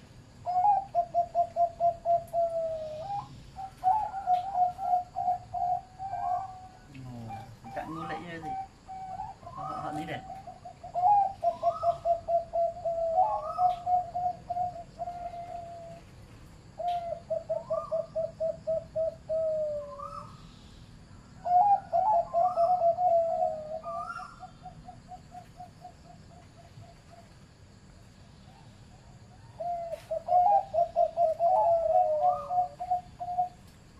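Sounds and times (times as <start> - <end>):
dove cooing trill: 0.0 - 16.2, 16.8 - 20.5, 21.3 - 27.4, 28.4 - 33.8.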